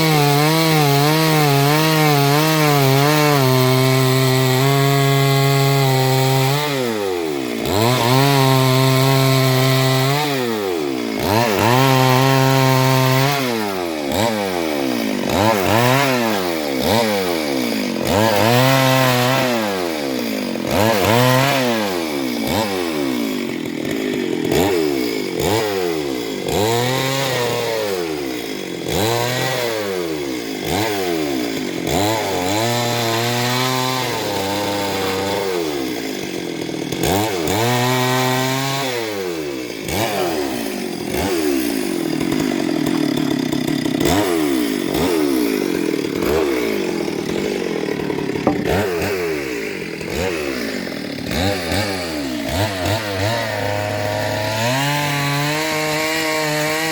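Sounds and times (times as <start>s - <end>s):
chainsaw revving while cutting wood: 0.0s - 56.9s.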